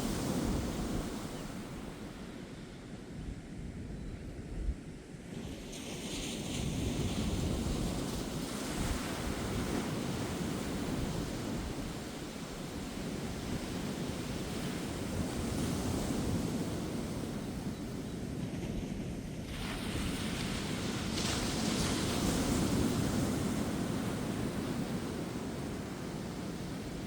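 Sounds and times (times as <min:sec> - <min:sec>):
waves breaking on a beach: 0:00.0 - 0:03.7, 0:05.0 - 0:27.0
wind rumble on microphone: 0:00.0 - 0:27.0.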